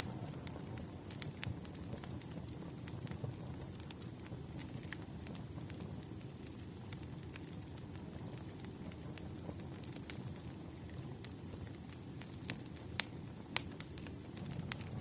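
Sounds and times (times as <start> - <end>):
low rumble of flames: 0.0 - 15.0
wood crackling and popping: 0.0 - 15.0.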